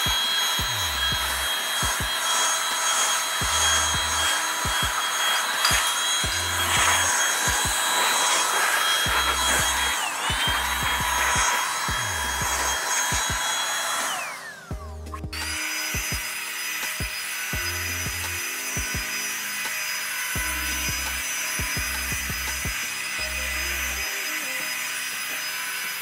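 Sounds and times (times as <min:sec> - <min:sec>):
background music with a beat: 0:00.0 - 0:02.2, 0:03.4 - 0:05.1, 0:05.7 - 0:13.5, 0:14.7 - 0:19.8, 0:20.4 - 0:25.4
electric air blower whining: 0:00.0 - 0:26.0.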